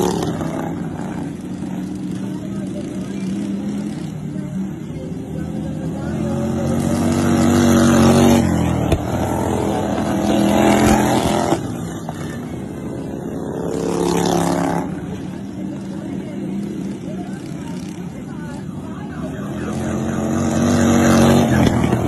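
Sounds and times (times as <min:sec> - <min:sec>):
racing lawn mower engines passing: 0:00.0 - 0:22.0.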